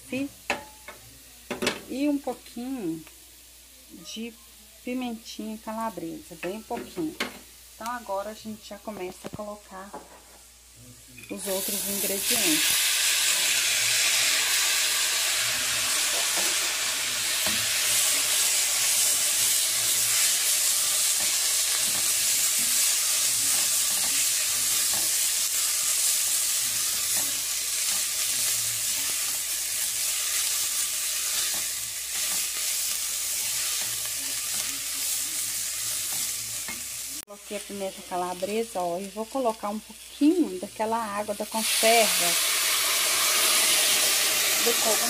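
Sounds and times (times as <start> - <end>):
food sizzling in butter: 0.0 - 45.0.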